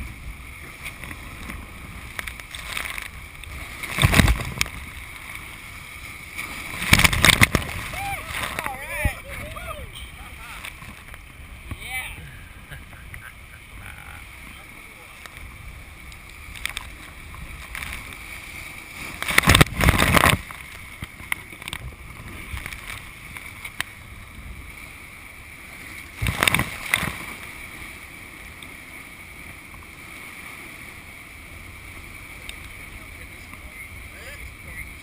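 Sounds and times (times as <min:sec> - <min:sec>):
whitewater rushing: 0:00.0 - 0:35.0.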